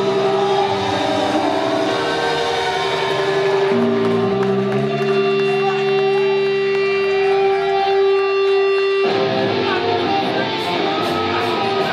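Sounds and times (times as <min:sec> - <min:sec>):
noisy guitar wash: 0:00.0 - 0:11.9.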